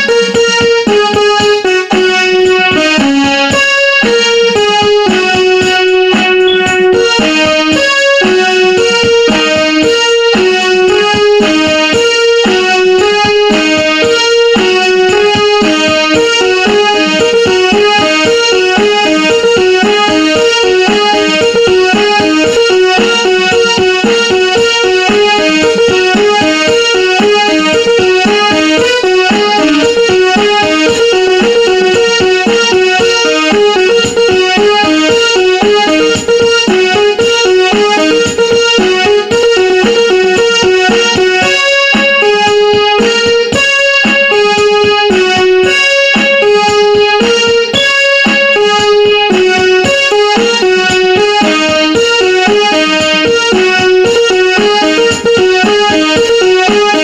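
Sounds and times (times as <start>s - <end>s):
electronic keyboard piano notes: 0.0s - 57.0s.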